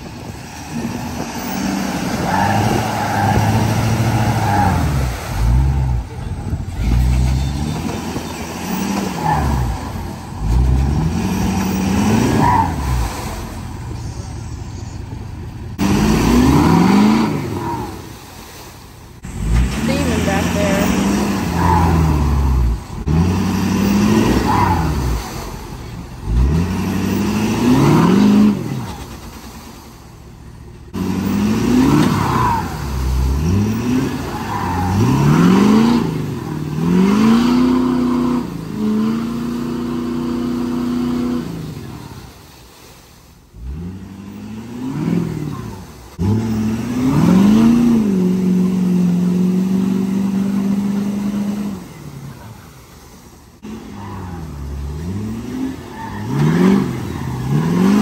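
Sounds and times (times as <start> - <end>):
diesel engine revving: 0.0 - 58.0
tires spinning through mud: 0.0 - 58.0.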